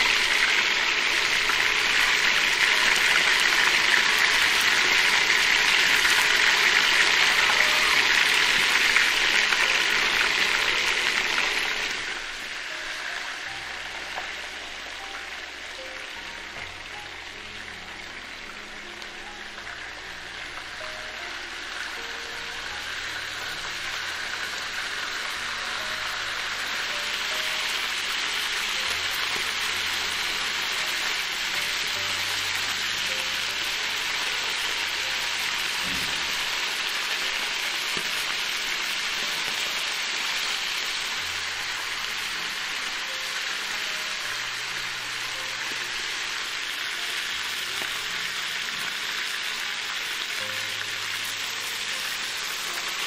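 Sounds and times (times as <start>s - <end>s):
chicken frying in a pan: 0.0s - 53.0s.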